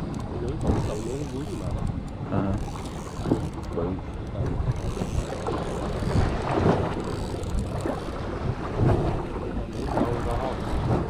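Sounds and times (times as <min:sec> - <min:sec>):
water lapping at boat hull: 0:00.0 - 0:11.0
wind buffeting microphone: 0:00.0 - 0:11.0.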